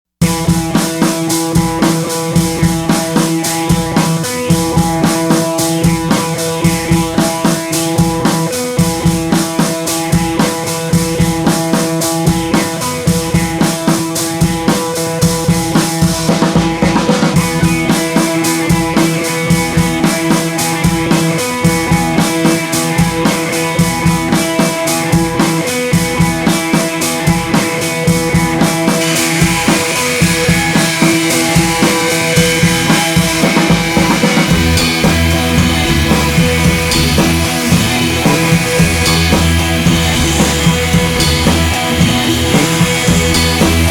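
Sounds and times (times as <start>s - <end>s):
upbeat music with drum beat: 0.2s - 43.9s.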